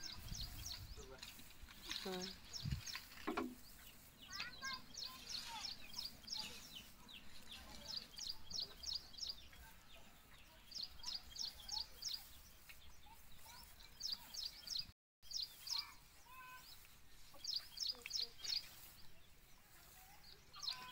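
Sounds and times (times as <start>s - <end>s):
faint outdoor background noise: 0.0s - 20.9s
small bird chirping: 0.0s - 20.9s.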